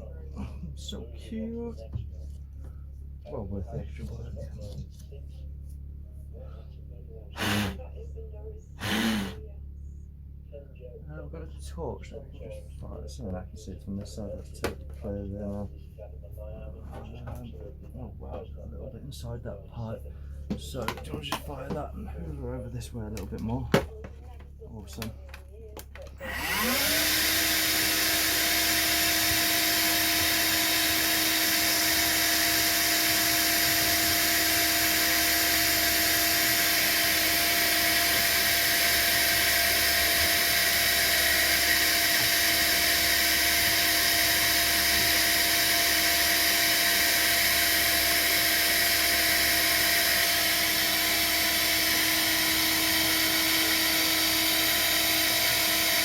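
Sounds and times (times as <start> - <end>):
vacuum cleaner running: 0.0 - 5.8, 6.4 - 8.0, 8.8 - 9.5, 16.4 - 56.0.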